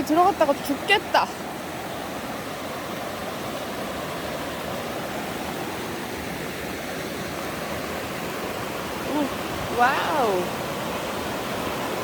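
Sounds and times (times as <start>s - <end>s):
mountain river rushing: 0.0s - 12.0s.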